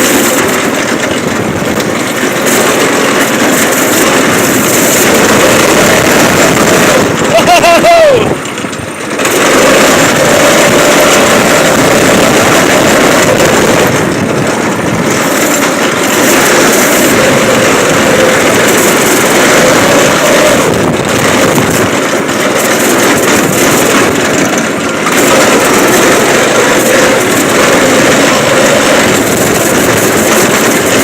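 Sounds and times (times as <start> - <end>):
go-kart engine running: 0.0 - 31.0.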